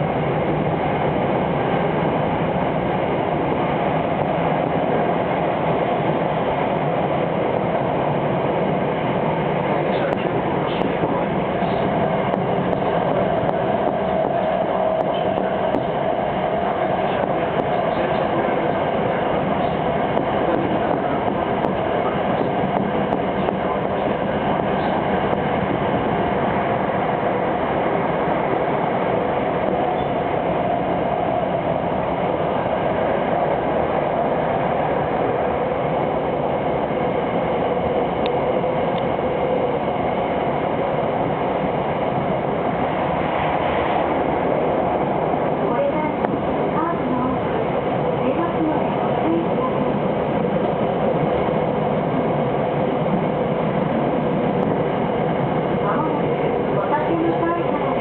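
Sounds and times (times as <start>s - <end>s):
wheels rumbling on rail: 0.0s - 58.0s.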